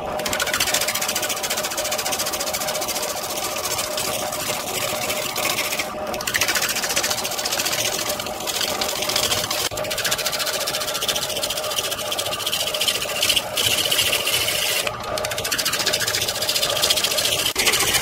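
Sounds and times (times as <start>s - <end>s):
wood lathe humming: 0.0s - 18.0s.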